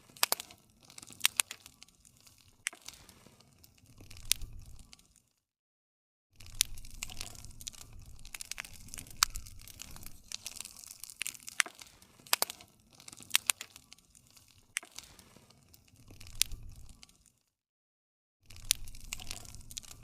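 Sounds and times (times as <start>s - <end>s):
wood fire crackling: 0.0s - 5.4s, 6.4s - 17.5s, 18.5s - 20.0s.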